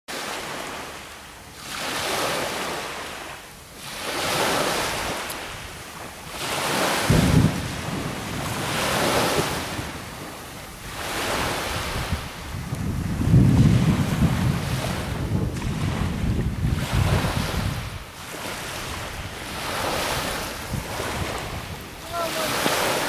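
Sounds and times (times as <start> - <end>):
surf washing ashore: 0.1 - 23.0
wind on microphone: 4.0 - 23.0.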